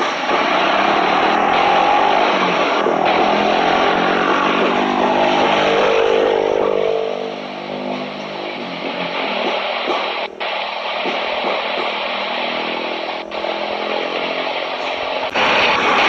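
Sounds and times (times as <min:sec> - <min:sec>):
jet engine whining: 0:00.0 - 0:16.0.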